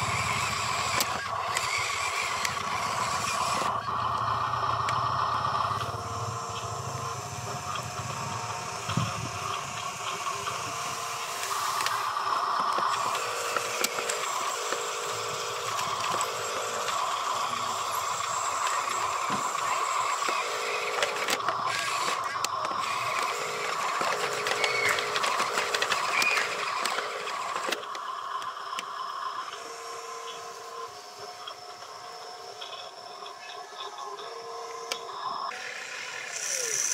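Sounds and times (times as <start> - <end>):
toy truck motors whirring: 0.0 - 36.9.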